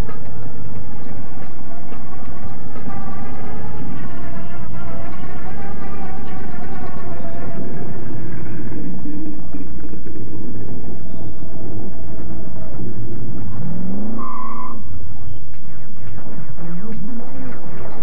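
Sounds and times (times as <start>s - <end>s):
vehicle engine rumbling and revving: 0.0s - 18.0s.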